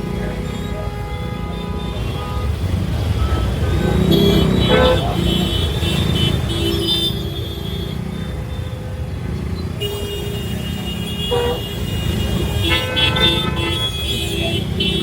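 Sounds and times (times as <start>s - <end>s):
road traffic noise: 0.0s - 15.0s
vehicle horns honking: 0.0s - 15.0s
wind: 0.0s - 15.0s.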